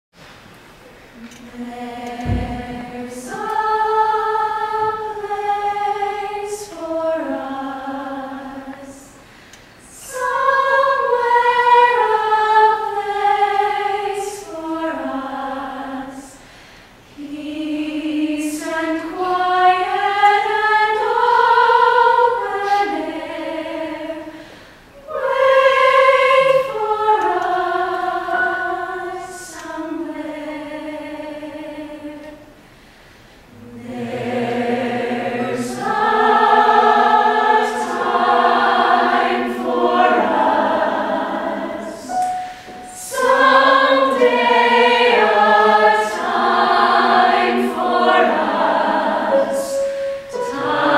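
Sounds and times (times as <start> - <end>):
mixed choir singing: 1.2 - 16.5, 17.1 - 32.6, 33.4 - 50.9.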